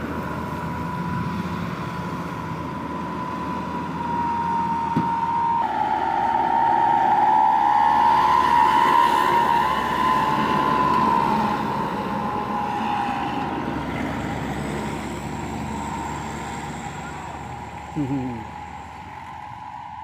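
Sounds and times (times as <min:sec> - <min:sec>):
road traffic noise: 0:00.0 - 0:20.0
vehicle wavering high tone: 0:00.0 - 0:20.0.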